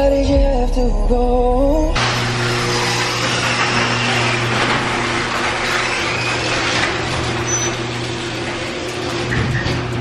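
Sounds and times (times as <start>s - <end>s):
garage door opener motor running: 2.0s - 10.0s.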